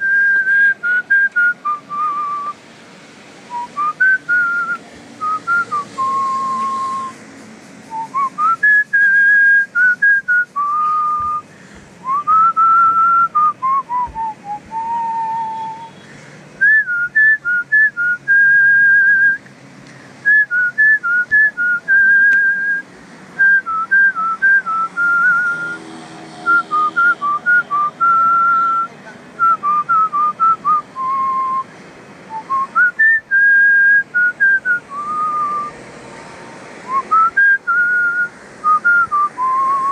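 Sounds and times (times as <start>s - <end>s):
person whistling a tune: 0.0s - 2.6s, 3.5s - 7.2s, 7.9s - 16.0s, 16.6s - 19.4s, 20.3s - 22.8s, 23.4s - 25.8s, 26.5s - 31.7s, 32.3s - 35.8s, 36.9s - 39.9s.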